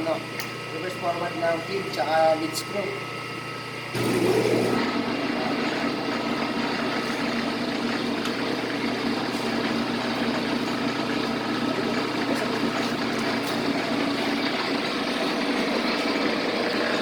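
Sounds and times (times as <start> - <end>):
metal lathe humming and whining: 0.0 - 17.0.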